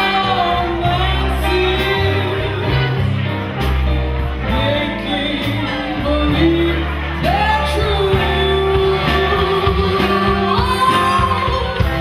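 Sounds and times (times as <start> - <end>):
woman singing into a microphone: 0.0 - 3.1, 4.5 - 12.0
drums: 0.0 - 12.0
guitar: 0.0 - 12.0.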